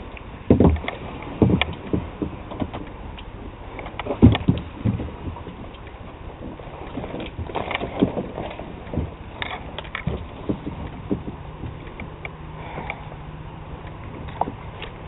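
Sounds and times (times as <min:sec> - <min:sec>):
branches knocking against kayak: 0:00.0 - 0:13.0, 0:13.8 - 0:15.0.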